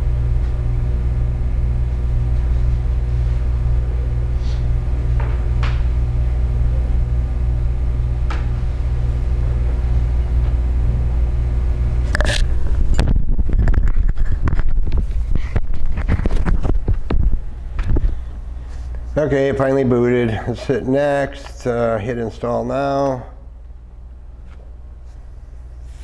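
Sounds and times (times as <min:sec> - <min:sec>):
loud low hum: 0:00.0 - 0:26.0.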